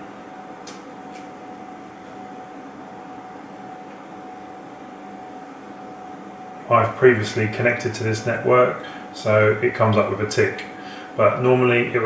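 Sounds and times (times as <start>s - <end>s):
room hum and hiss: 0.0s - 12.0s.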